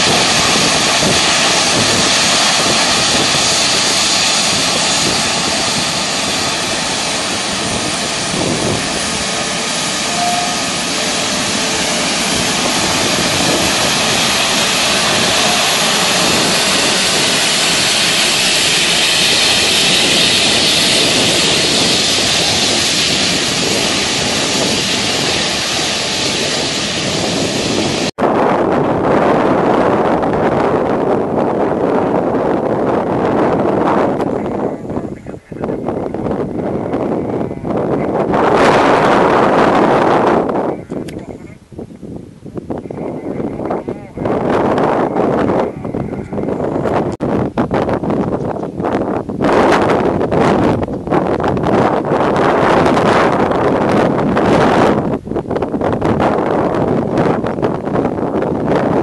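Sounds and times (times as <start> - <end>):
jet engines whining: 0.0 - 41.7, 42.5 - 59.0.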